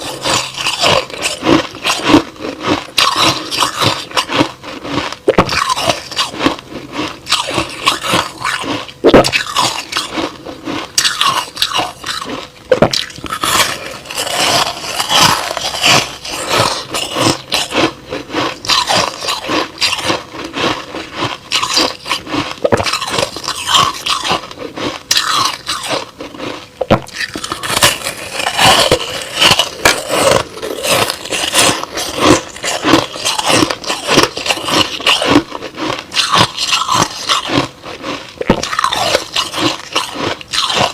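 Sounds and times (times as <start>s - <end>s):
chewing crushed ice: 0.0s - 40.9s.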